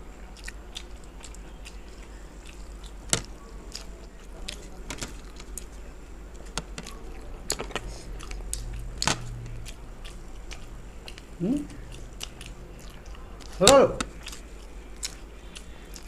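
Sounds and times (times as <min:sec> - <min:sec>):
wet chewing with smacks: 0:00.2 - 0:05.7, 0:06.4 - 0:16.0.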